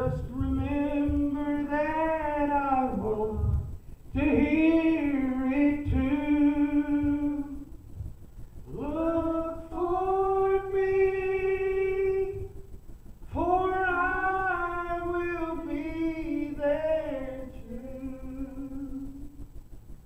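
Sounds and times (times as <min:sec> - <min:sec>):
person singing gospel: 0:00.0 - 0:07.8, 0:08.6 - 0:19.4.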